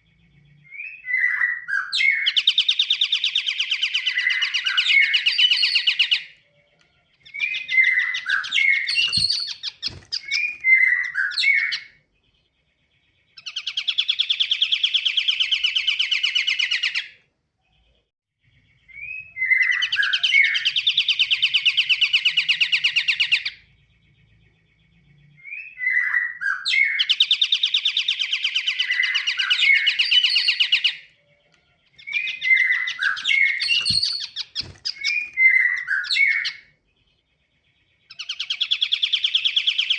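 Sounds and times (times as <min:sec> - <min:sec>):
bird trilling and chirping: 0:00.0 - 0:39.9.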